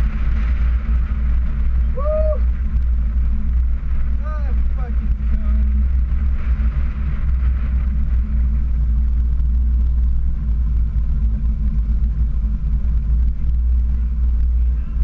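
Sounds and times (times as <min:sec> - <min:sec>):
car engine running low speed: 0:00.0 - 0:15.0.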